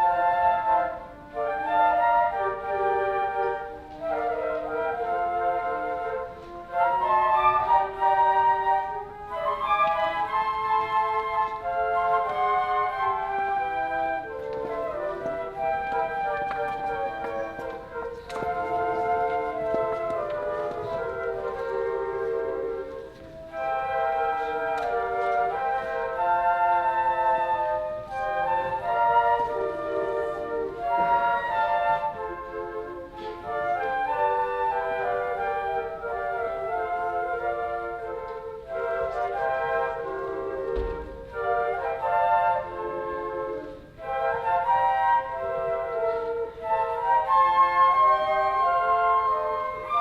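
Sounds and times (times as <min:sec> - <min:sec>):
flute ensemble music: 0:00.0 - 0:50.0.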